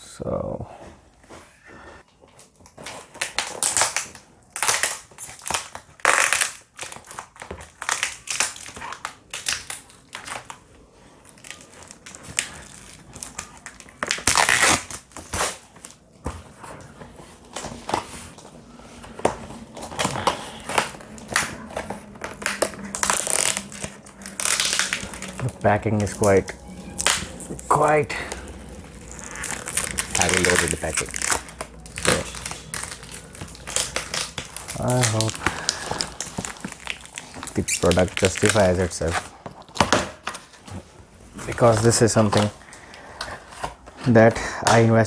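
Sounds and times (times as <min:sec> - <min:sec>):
packaging crinkling: 0:02.3 - 0:44.2.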